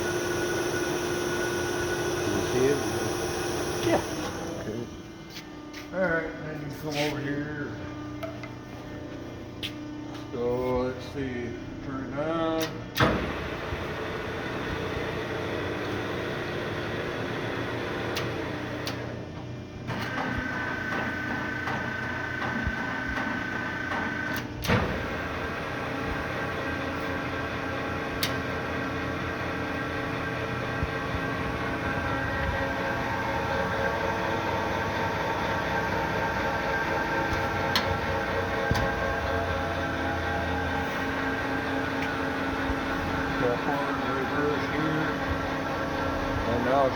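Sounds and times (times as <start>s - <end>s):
lathe gear whir with whining tones: 0.0s - 8.3s, 9.9s - 46.9s.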